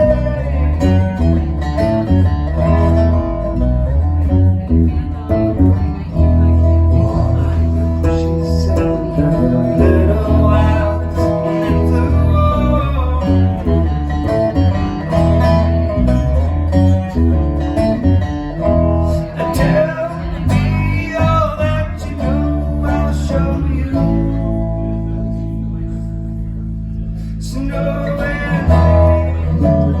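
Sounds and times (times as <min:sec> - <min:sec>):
bass line: 0:00.0 - 0:30.0
plucked guitar notes: 0:00.0 - 0:30.0.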